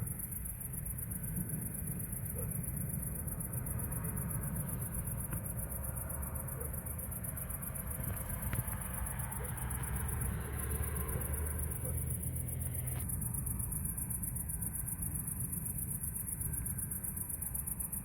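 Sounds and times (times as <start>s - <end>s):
constant low rumble: 0.0s - 18.0s
crickets chirping: 0.0s - 18.0s.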